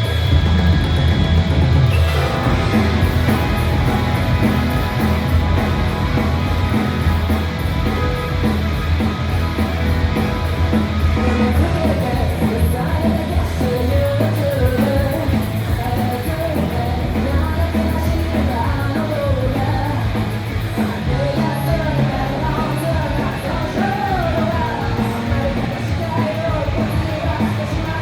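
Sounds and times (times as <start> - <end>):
live rock band playing: 0.0 - 28.0
person singing lead vocals: 2.0 - 28.0.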